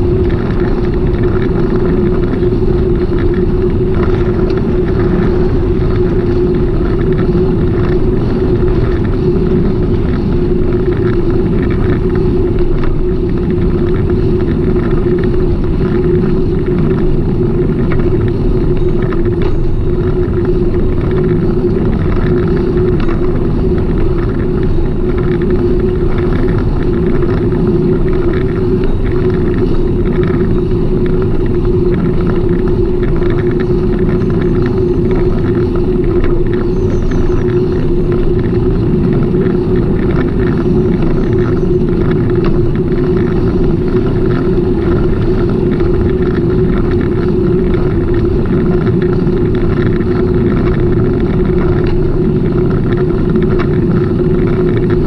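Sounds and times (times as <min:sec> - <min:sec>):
bicycle riding noise: 0:00.0 - 0:55.0
constant hum: 0:00.0 - 0:55.0
wind rumble on microphone: 0:00.0 - 0:55.0.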